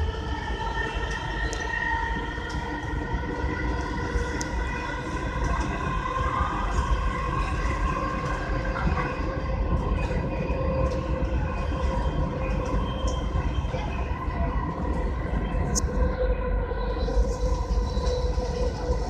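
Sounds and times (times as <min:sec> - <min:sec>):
multi-tone whine: 0:00.0 - 0:19.0
train running low rumble: 0:00.0 - 0:19.0.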